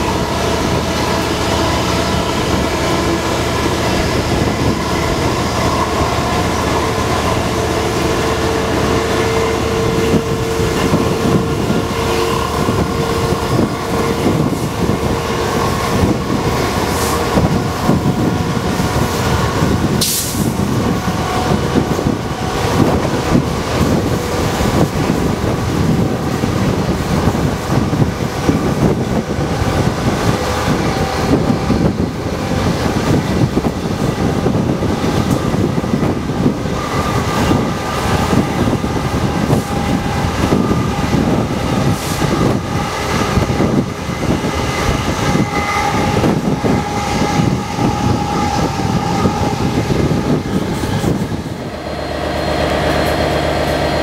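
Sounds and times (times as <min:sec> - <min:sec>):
diesel locomotive engine running: 0:00.0 - 0:54.0
wheel and rail noise: 0:00.0 - 0:54.0
wind rushing: 0:00.0 - 0:54.0.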